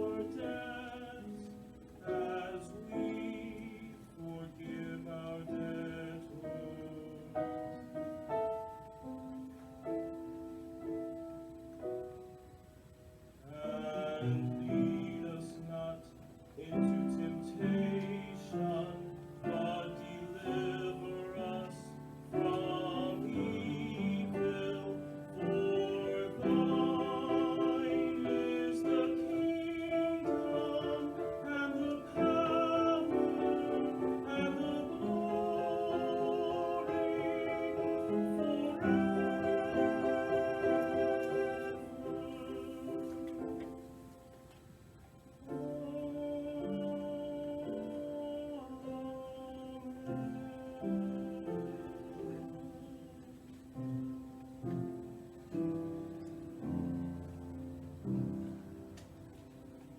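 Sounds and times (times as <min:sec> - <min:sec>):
piano accompaniment: 0:00.0 - 0:59.9.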